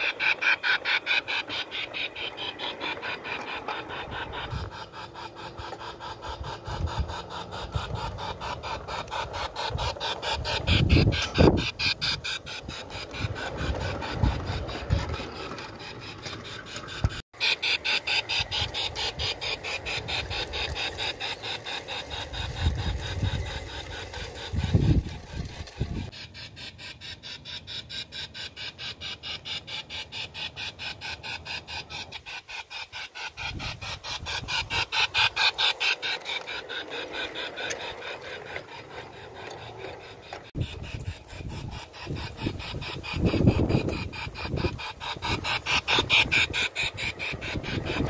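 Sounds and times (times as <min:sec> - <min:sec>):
model steam locomotive chuffing: 0:00.0 - 0:48.0.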